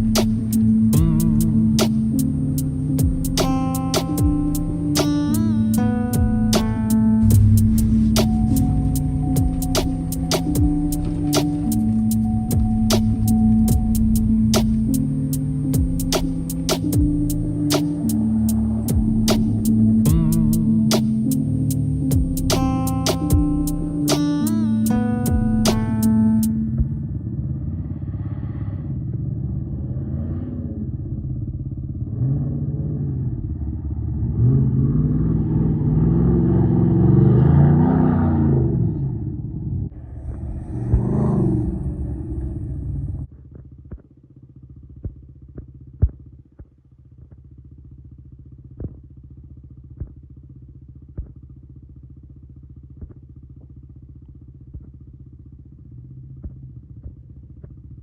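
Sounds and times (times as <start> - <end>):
low hum: 0.0 - 58.0
vehicle engine running: 0.0 - 58.0.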